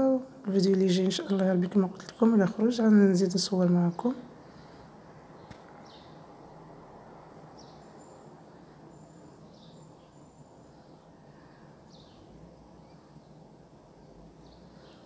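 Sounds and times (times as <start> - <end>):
faint background rush: 0.0 - 15.0
small birds chirping: 0.6 - 15.0.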